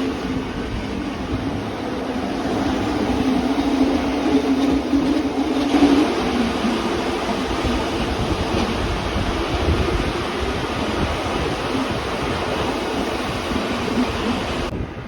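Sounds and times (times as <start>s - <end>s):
train wheel and rail noise: 0.0s - 15.0s.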